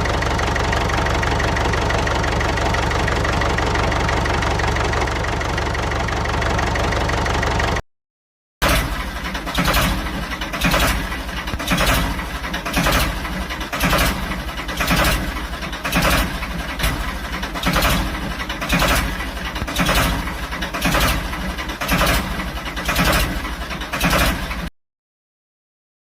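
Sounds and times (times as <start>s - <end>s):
tractor engine running: 0.0s - 7.8s, 8.6s - 24.7s.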